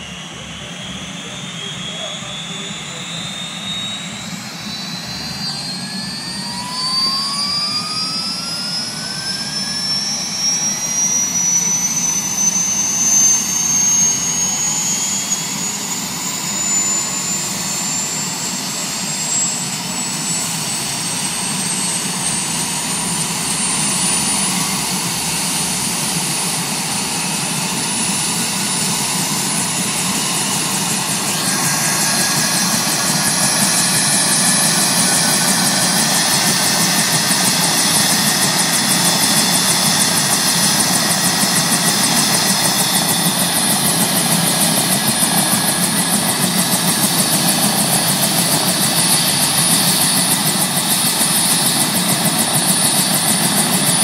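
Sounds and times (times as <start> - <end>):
helicopter rotor turning: 0.0 - 54.0
helicopter turbine whine: 0.0 - 54.0.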